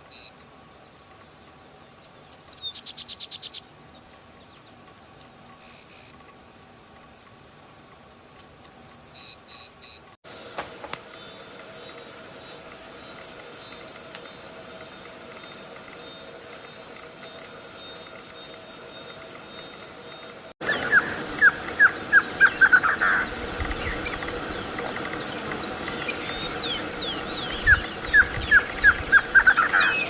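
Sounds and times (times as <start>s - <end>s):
songbirds singing: 0.0s - 7.3s, 8.7s - 30.0s.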